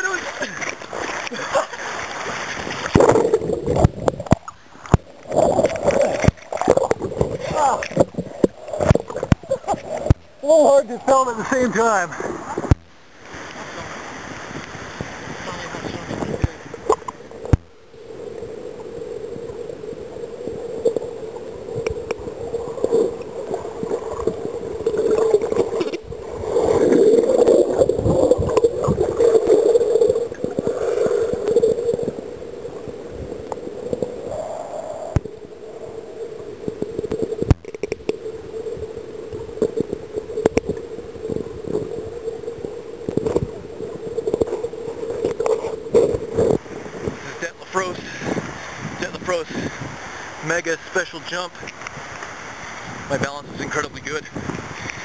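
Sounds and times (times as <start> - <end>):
water gurgling and sloshing: 0.0 - 55.0.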